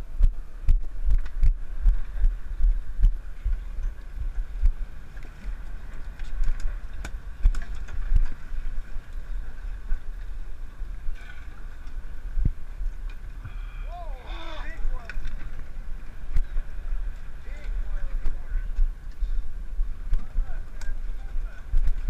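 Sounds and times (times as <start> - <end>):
boat rumble: 0.0 - 22.0
wind buffeting microphone: 0.0 - 22.0.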